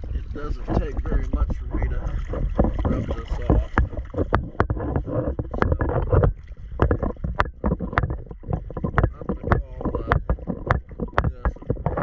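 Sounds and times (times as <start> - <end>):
low watery rumble: 0.0 - 12.0
underwater bubbling: 0.0 - 12.0
sharp underwater clicks: 0.7 - 12.0.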